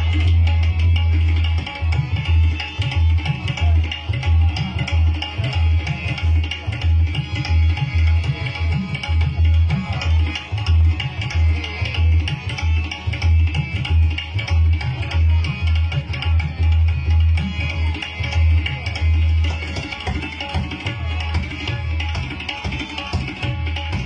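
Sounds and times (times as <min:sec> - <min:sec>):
harmonium: 0:00.0 - 0:24.0
tabla playing: 0:00.0 - 0:24.0.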